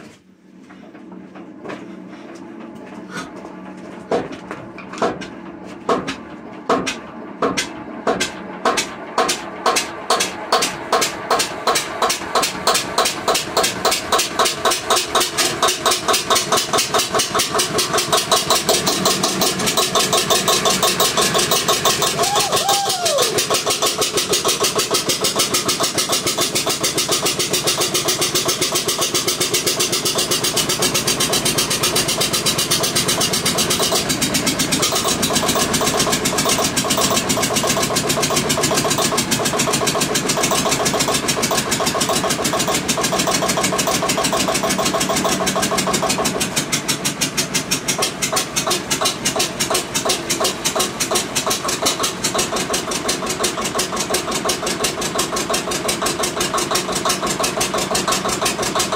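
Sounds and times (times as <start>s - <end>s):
diesel generator engine chugging: 0.4s - 58.9s.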